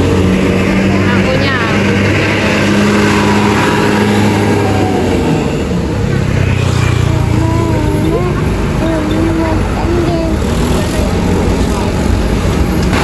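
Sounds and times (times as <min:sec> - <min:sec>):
bus diesel engine passing: 0:00.0 - 0:13.0
motorcycle engine: 0:00.0 - 0:13.0
tyre and road noise: 0:00.0 - 0:13.0.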